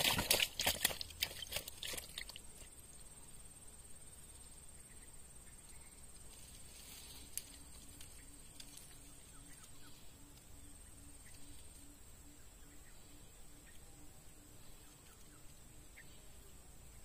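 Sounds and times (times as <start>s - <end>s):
faint chirps: 0.7s - 17.0s.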